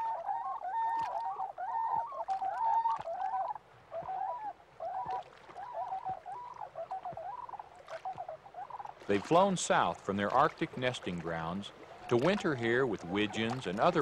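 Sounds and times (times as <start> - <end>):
swans hooting: 0.0 - 14.0.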